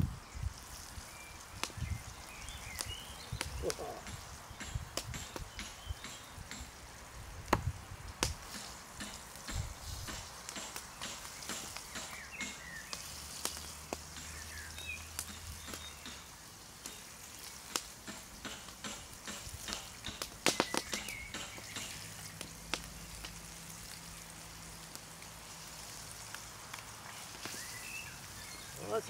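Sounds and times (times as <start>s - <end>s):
fish frying in oil: 0.0s - 29.0s.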